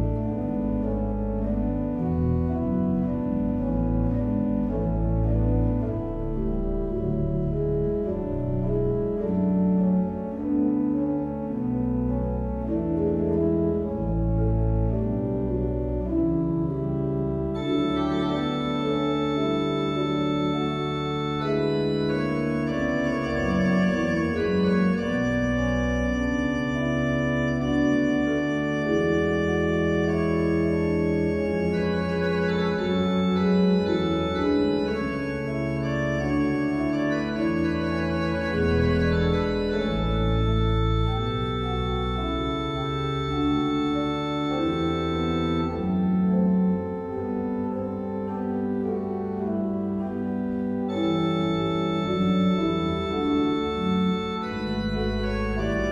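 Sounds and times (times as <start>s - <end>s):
pipe organ playing chords: 0.0s - 55.9s.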